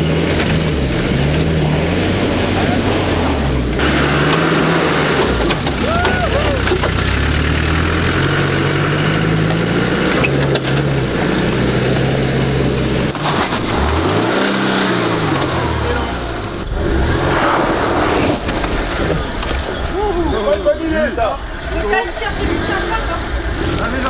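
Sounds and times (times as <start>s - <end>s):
engine revving: 0.0s - 24.0s
off-road engine running steadily: 0.0s - 24.0s
tyre and ground noise: 0.0s - 24.0s.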